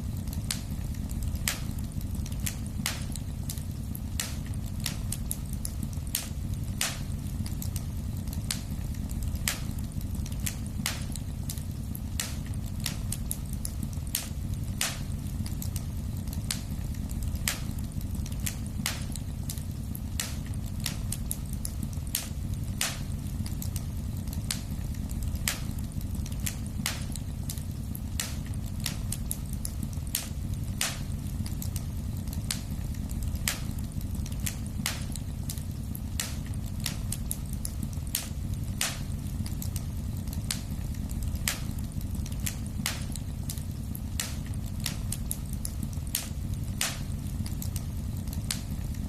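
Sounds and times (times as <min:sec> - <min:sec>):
fire popping and crackling: 0:00.0 - 0:49.0
fire roaring: 0:00.0 - 0:49.0.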